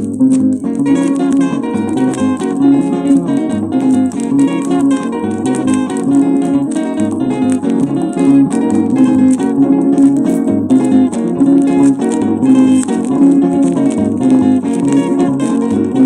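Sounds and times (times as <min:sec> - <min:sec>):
plucked electric guitars: 0:00.0 - 0:16.0
shaker beat: 0:00.0 - 0:16.0.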